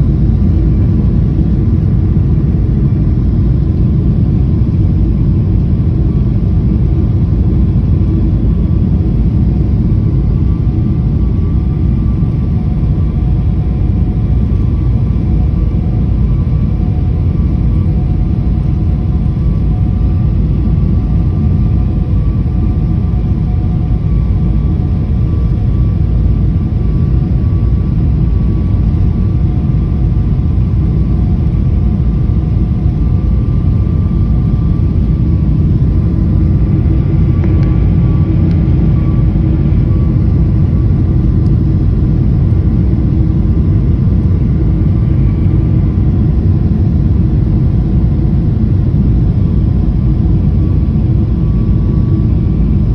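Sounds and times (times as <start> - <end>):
jet engines and airflow rumble: 0.0 - 52.9
steady whining tones: 0.0 - 52.9.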